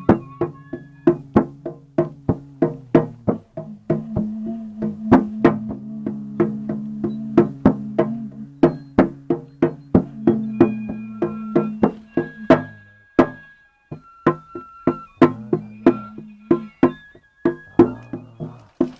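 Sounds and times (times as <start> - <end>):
low drone: 0.0 - 13.5, 14.2 - 18.8.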